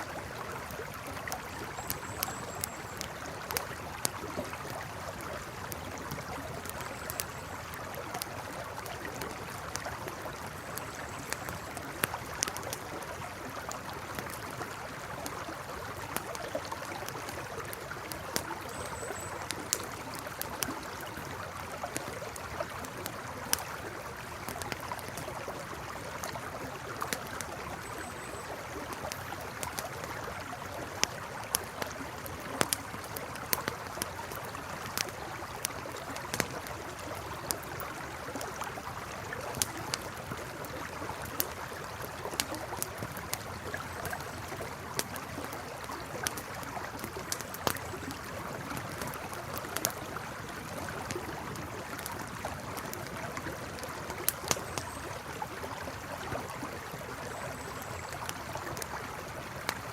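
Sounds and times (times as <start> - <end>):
campfire crackling: 0.0 - 59.9
river flowing: 0.0 - 59.9.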